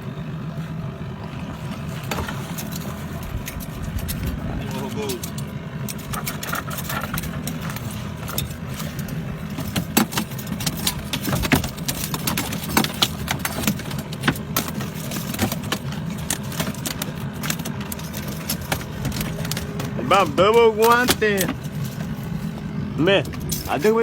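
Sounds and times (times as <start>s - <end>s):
engine idling: 0.0s - 24.0s
sharp clicks and knocks: 1.7s - 24.0s.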